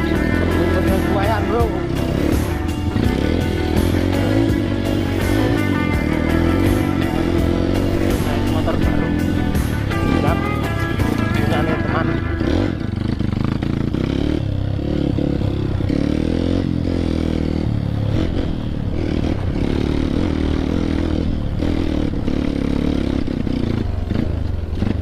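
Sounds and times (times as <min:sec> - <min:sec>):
bike rattling over bumps: 0:00.0 - 0:25.0
dirt bike engine revving: 0:00.0 - 0:25.0.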